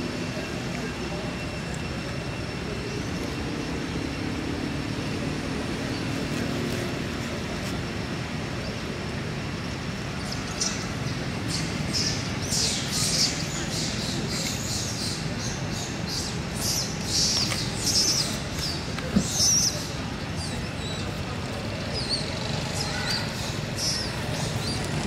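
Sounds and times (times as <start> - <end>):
distant traffic hum: 0.0 - 25.0.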